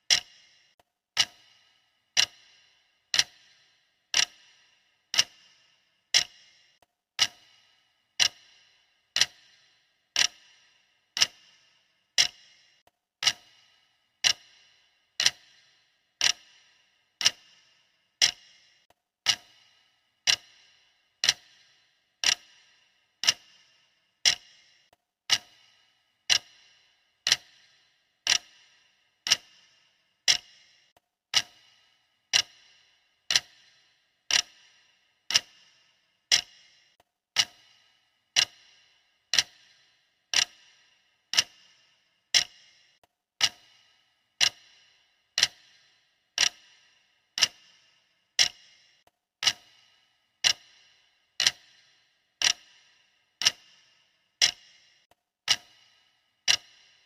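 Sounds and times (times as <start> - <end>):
clock ticking with metallic ring: 0.0 - 57.0.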